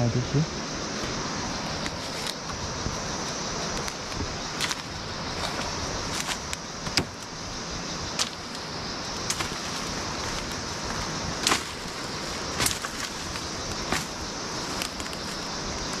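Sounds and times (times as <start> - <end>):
stream rushing: 0.4 - 16.0.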